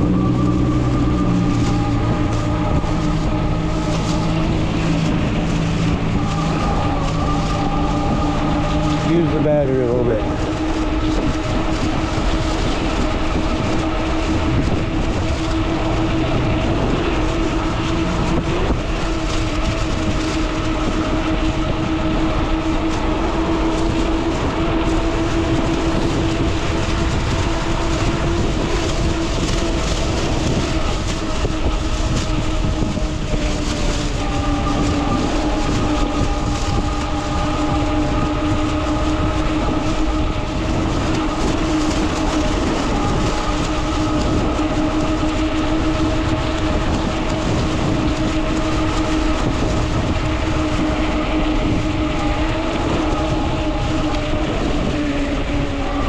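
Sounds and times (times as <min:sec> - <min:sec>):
electric bike motor hum: 0:00.0 - 0:56.0
road and wind noise: 0:00.0 - 0:56.0.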